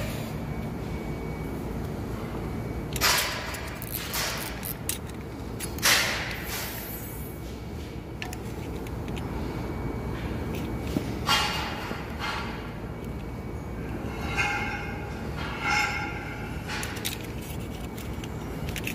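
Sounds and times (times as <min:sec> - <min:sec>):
steady low background hum: 0:00.0 - 0:18.9.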